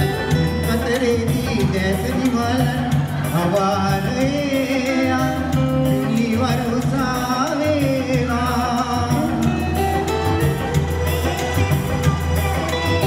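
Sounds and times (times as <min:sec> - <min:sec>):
bass notes and beat: 0:00.0 - 0:13.0.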